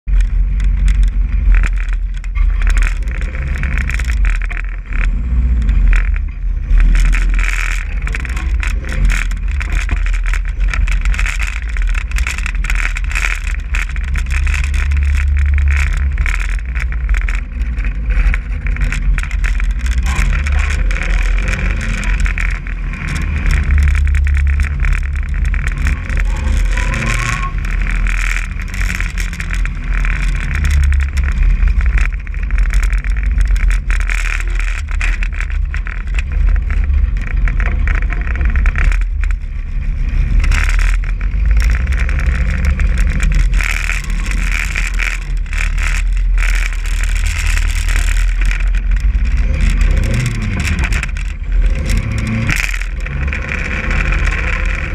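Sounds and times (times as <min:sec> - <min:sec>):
car engine running: 0:00.0 - 0:54.9
heavy low rumble: 0:00.0 - 0:54.9
rattling clicks: 0:00.1 - 0:54.9.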